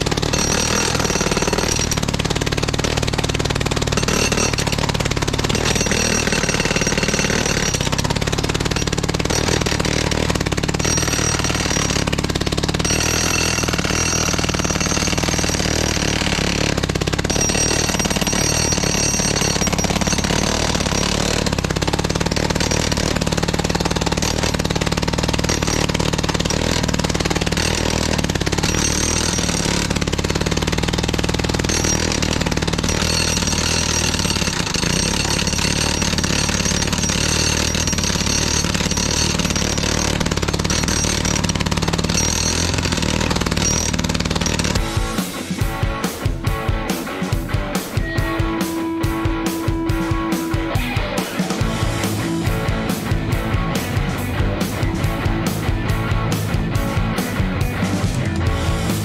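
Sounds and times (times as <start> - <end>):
gas-powered breaker hammering concrete: 0.0 - 59.0.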